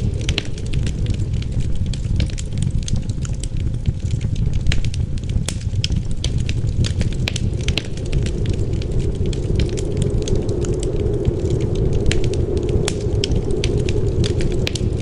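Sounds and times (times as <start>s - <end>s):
low rumble of wind: 0.0s - 15.0s
wood fire crackling and popping: 0.0s - 15.0s.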